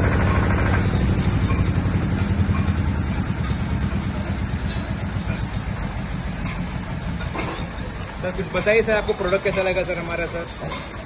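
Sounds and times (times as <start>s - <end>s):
diesel generator humming: 0.0s - 11.0s.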